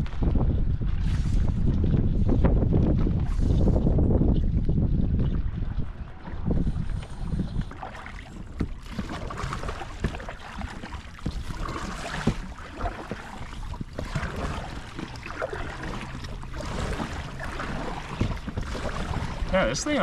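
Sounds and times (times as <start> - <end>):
paddle splashing in water: 0.0 - 20.0
wind rumbling on microphone: 0.0 - 20.0.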